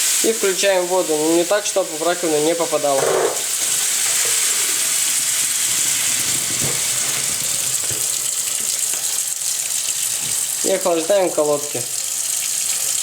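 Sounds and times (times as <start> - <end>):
tap water running into hot pan: 0.0 - 13.0.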